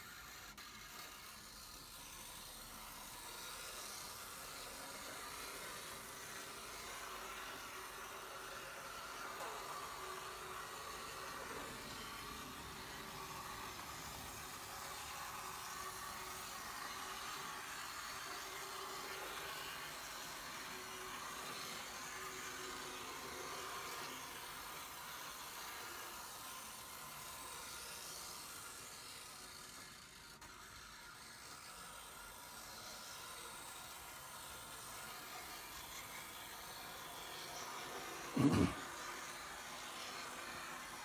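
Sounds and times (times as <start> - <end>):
model locomotive motor whir: 0.0 - 41.0.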